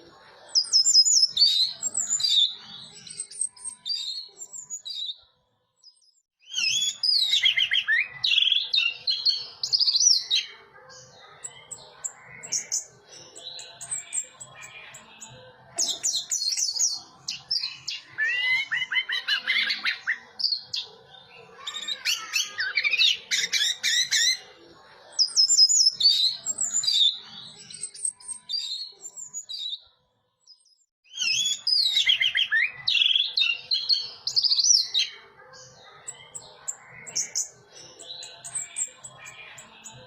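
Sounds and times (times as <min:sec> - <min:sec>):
thrush singing whistles and chatter: 0:00.0 - 0:40.0.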